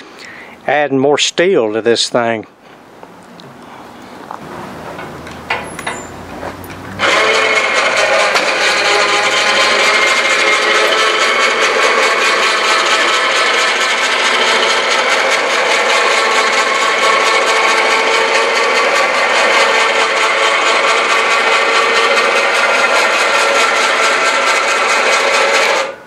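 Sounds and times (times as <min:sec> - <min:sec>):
electric winch motor whining: 0:04.0 - 0:26.0.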